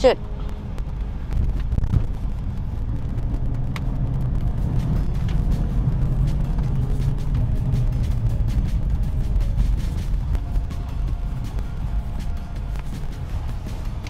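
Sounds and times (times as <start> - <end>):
car engine rumble: 0.0 - 14.0
tyres on road: 0.0 - 14.0.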